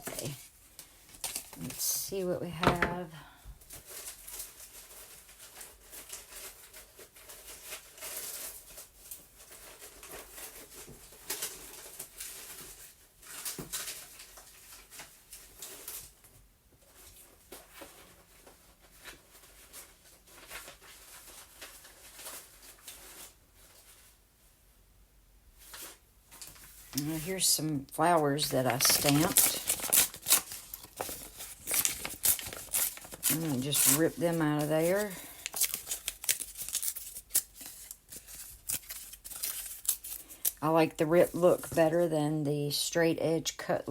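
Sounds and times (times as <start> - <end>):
paper rustling and shuffling: 0.0 - 2.0, 2.6 - 24.2, 25.6 - 42.0.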